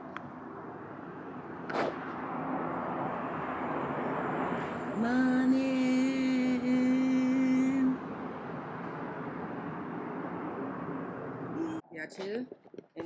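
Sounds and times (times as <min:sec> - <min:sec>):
steady rushing noise: 0:00.0 - 0:11.6.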